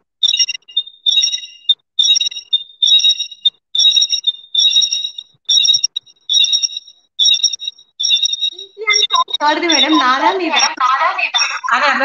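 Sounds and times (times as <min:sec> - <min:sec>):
electronic chirping alert tone: 0:00.2 - 0:11.7.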